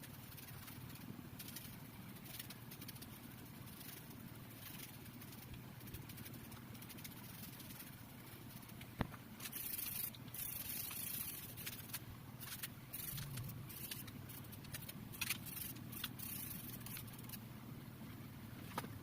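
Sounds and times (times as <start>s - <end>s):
scraping or brushing strokes: 0.0s - 17.4s
small clicks and rattles: 0.0s - 17.4s.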